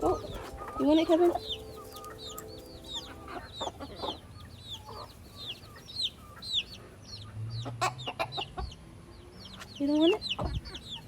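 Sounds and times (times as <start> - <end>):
baby chicks peeping: 0.0 - 11.0
chickens clucking: 0.0 - 11.0.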